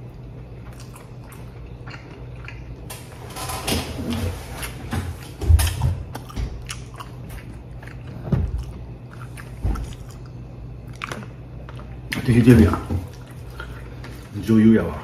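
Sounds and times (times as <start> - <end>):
person chewing food: 0.0 - 3.2, 4.0 - 14.4.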